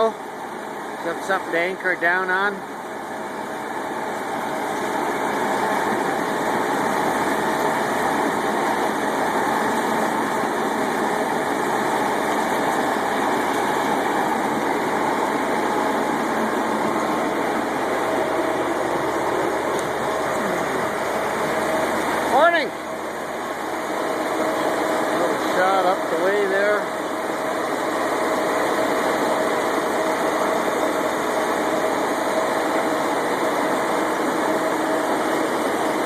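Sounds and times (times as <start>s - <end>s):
diesel engine running: 1.0s - 36.0s.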